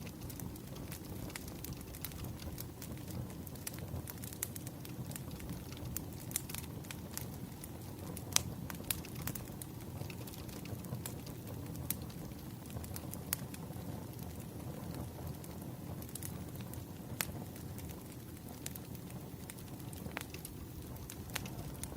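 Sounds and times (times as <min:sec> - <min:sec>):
low fire rumble: 0:00.0 - 0:21.9
wood fire crackling: 0:00.0 - 0:21.9.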